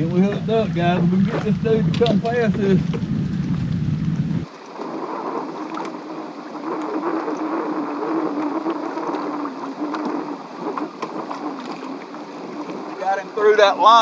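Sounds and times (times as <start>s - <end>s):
faint wavering hum: 0.0s - 14.0s
water noise: 0.0s - 14.0s
wind noise: 0.0s - 14.0s.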